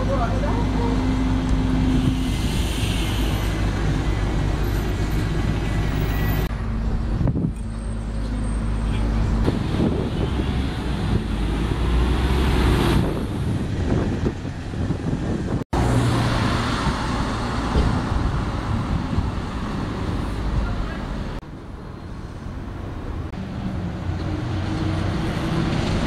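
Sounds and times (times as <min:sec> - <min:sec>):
bus driving past: 0:00.0 - 0:26.0.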